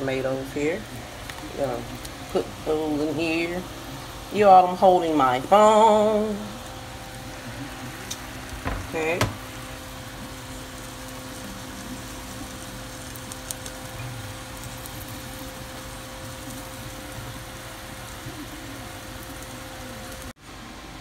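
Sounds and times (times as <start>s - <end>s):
omelet sizzling in a frying pan: 0.0s - 21.0s.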